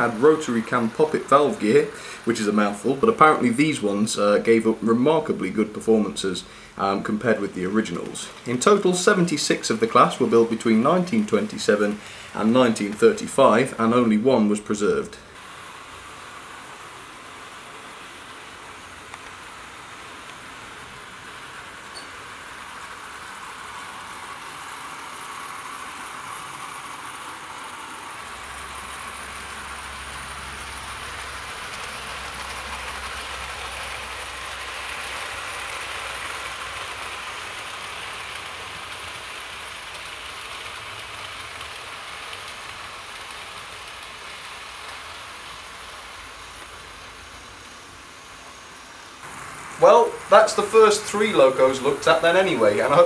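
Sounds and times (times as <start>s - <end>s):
model train wheels and motor whirring: 0.0s - 53.0s.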